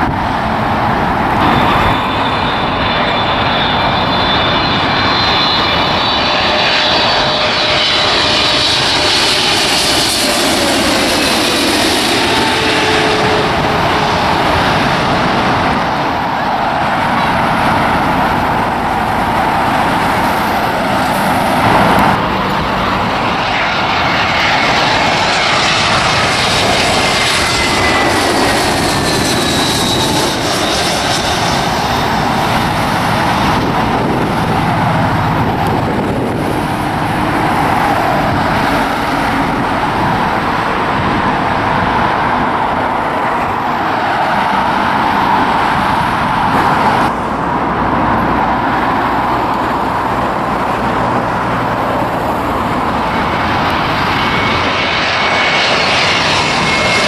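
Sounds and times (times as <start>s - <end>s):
jet engine roar: 0.0s - 57.0s
jet engine whine: 0.0s - 57.0s.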